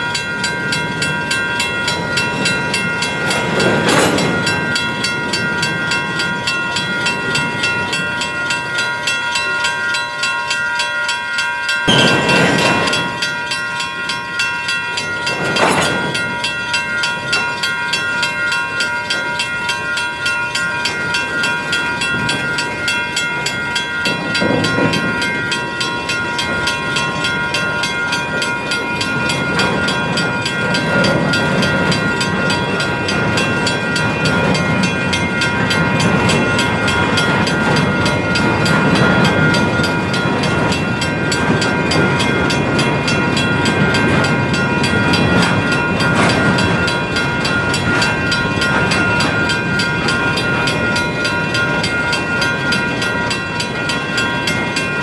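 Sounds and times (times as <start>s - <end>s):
train wheels rumbling over rails: 0.0s - 55.0s.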